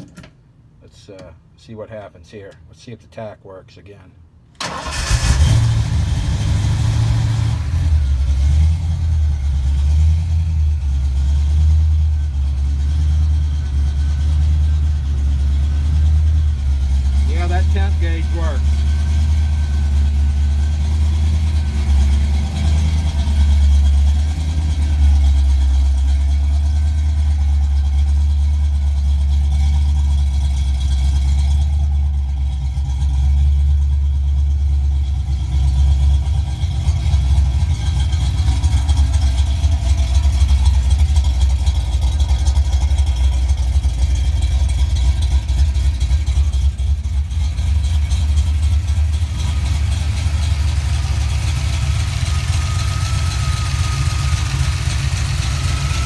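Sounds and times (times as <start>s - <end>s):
car engine idling: 4.6s - 56.0s.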